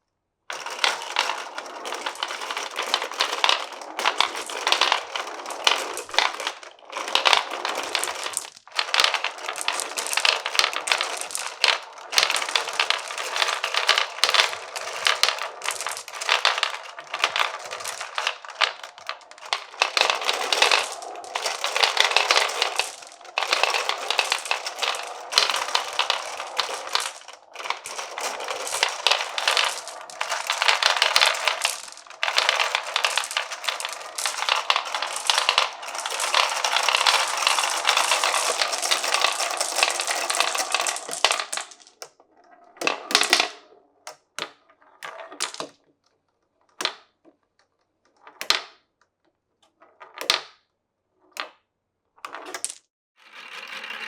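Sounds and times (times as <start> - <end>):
glass marbles rolling down wooden run: 0.5 - 45.8, 52.2 - 54.0.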